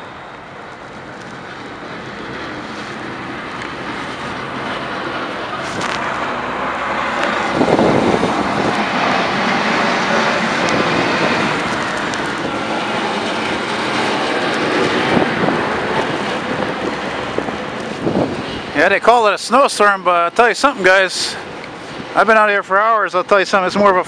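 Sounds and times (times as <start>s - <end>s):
diesel truck engine: 0.0s - 24.0s
plow blade scraping snow: 0.8s - 22.6s.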